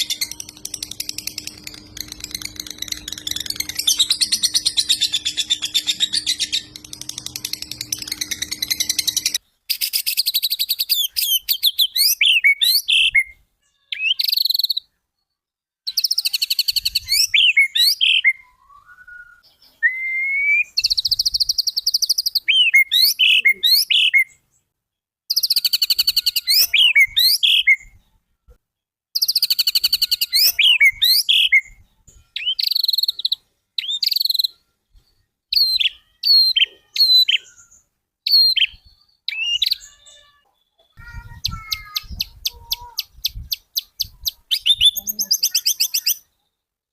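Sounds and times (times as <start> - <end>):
songbird trilling and whistling: 0.0 - 13.4, 14.0 - 14.9, 15.9 - 24.4, 25.3 - 28.0, 29.2 - 31.8, 32.4 - 34.6, 35.5 - 40.3, 40.9 - 46.3.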